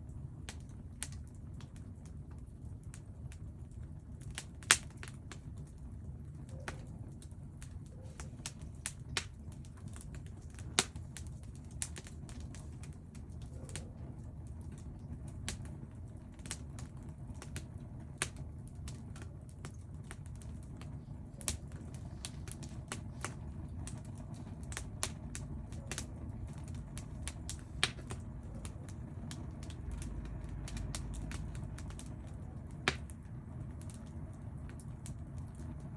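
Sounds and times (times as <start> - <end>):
firewood crackling and popping: 0.0 - 35.9.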